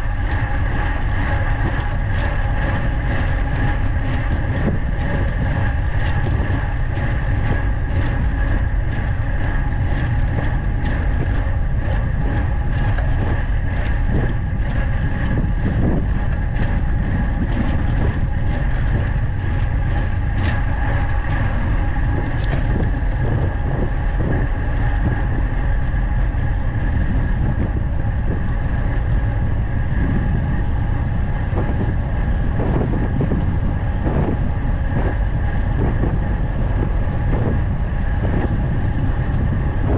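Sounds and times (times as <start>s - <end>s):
bike tyres rumbling on road: 0.0s - 39.9s
faint steady whine: 0.0s - 39.9s
wind on microphone: 0.0s - 39.9s.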